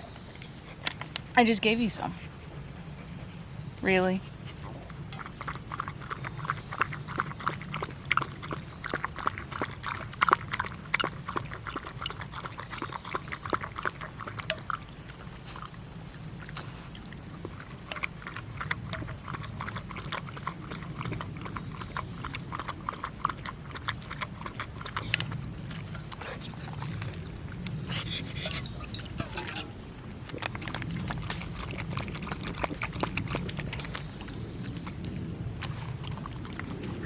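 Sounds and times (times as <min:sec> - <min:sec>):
dog lapping water: 0:04.3 - 0:37.0.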